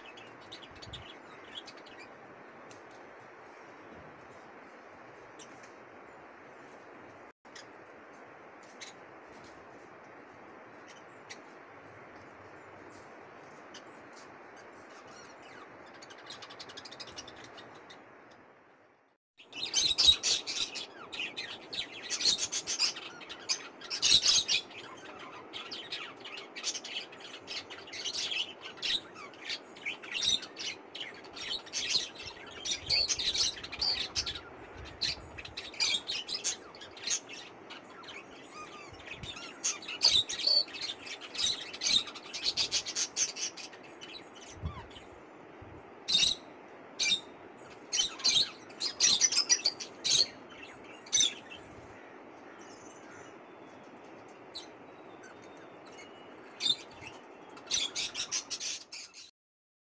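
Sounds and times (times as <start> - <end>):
faint steady hiss: 0.0 - 59.3.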